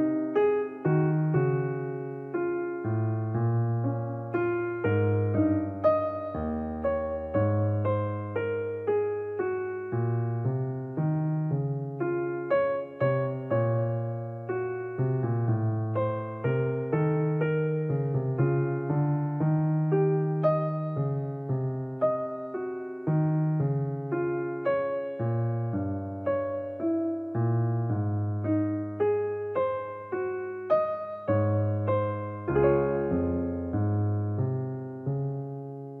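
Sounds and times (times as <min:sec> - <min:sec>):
slow piano music: 0:00.0 - 0:36.0.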